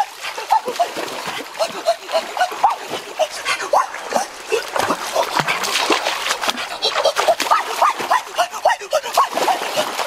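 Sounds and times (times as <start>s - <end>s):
hands splashing in stream: 0.0s - 10.0s
water gurgling: 0.0s - 10.0s.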